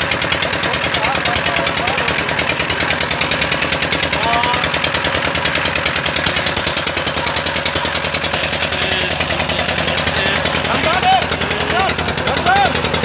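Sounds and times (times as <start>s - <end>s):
boat engine knocking: 0.0s - 13.0s.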